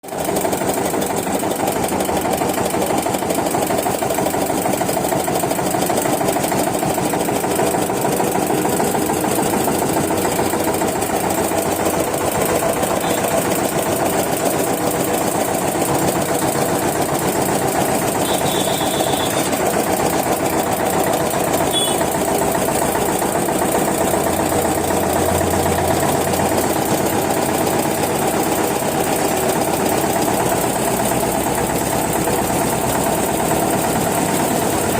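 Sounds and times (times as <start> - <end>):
tractor diesel engine chugging: 0.1 - 34.9.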